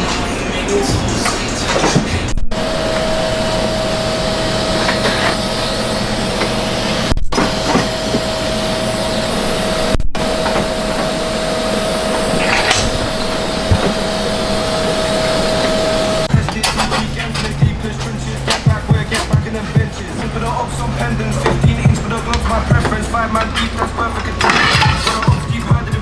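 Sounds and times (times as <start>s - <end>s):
power tool whirring: 2.5s - 26.0s.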